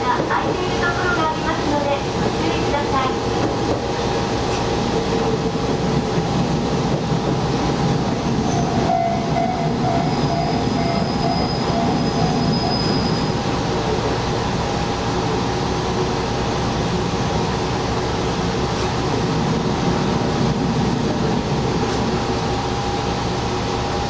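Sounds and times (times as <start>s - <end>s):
diesel railcar running on track: 0.0s - 24.0s.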